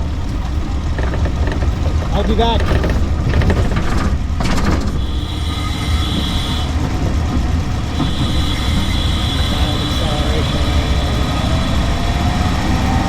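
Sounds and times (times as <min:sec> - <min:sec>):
low drivetrain and road rumble: 0:00.0 - 0:13.0.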